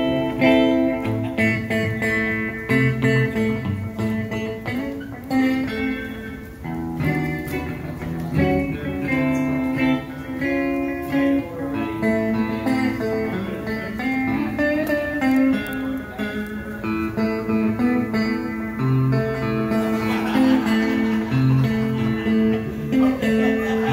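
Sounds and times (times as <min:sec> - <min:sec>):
guitar playing: 0:00.0 - 0:23.9.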